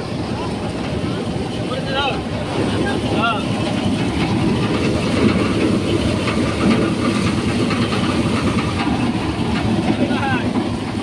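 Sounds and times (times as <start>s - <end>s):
threshing machine rattling: 1.9s - 11.0s.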